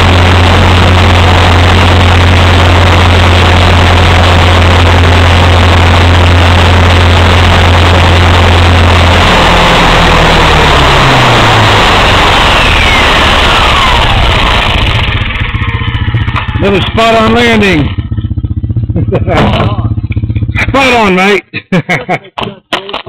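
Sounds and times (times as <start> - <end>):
rushing air noise: 0.0 - 21.1
helicopter rotor hum: 0.0 - 21.3
motor whine spinning down: 0.0 - 21.4.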